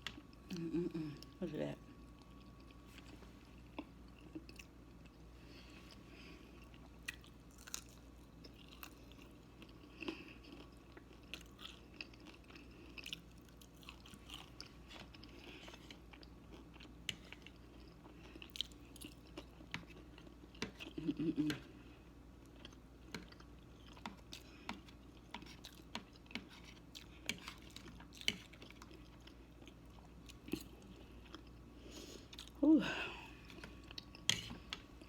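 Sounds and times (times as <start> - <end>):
person chewing food: 2.0 - 32.6, 33.3 - 35.0.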